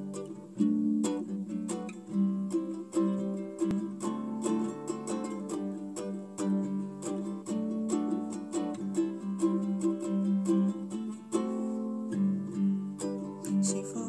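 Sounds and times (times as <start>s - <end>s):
plucked guitalele chords: 0.0s - 14.0s.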